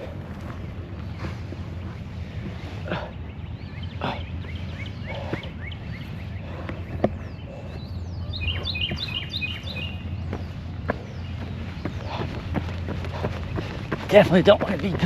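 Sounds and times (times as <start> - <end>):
songbirds chirping: 0.0 - 15.0
steady low rumble: 0.0 - 15.0.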